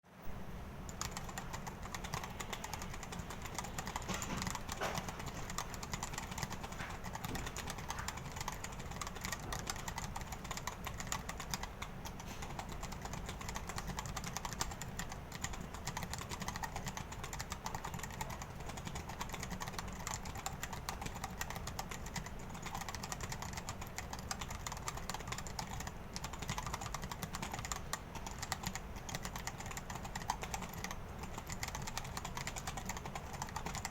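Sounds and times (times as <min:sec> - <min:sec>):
fast typing on mechanical keyboard: 0:00.8 - 0:33.9.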